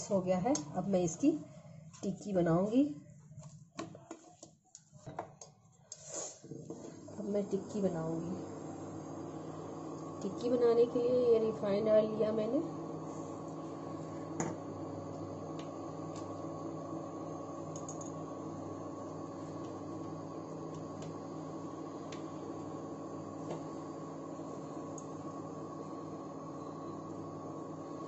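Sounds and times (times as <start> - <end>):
induction cooktop humming: 0.0 - 3.6, 5.0 - 28.0.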